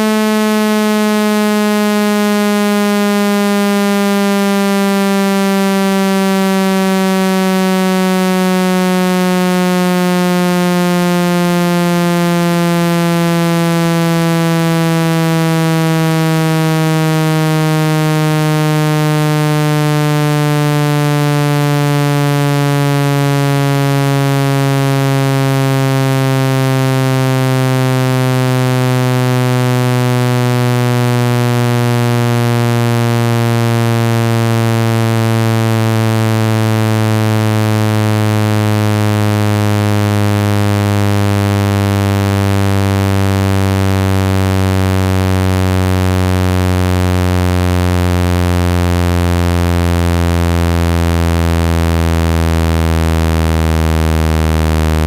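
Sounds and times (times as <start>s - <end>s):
buzzy low tone sliding down: 0.0s - 55.0s.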